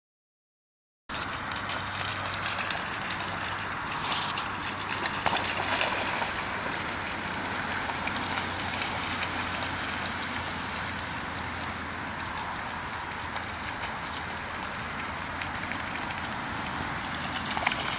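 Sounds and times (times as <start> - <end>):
water splashing and sloshing: 1.1 - 17.9.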